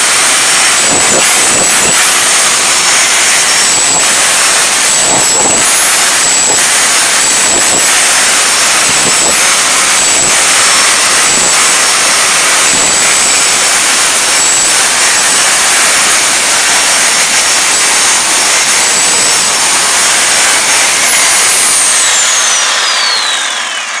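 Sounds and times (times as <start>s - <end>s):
motor spinning down: 0.0s - 24.0s
rotary hammer chiseling concrete: 0.0s - 24.0s.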